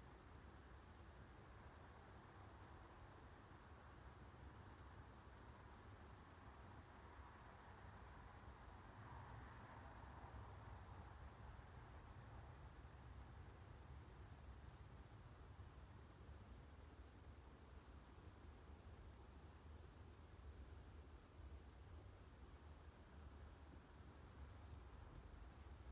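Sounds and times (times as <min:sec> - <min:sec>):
insects chirping: 0:00.0 - 0:25.9.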